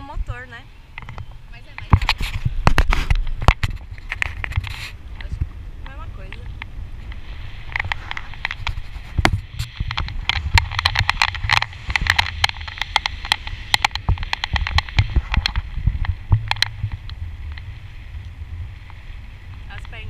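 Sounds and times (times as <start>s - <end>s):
wind rumbling on microphone: 0.0s - 20.0s
sharp clicks and knocks: 1.0s - 17.7s.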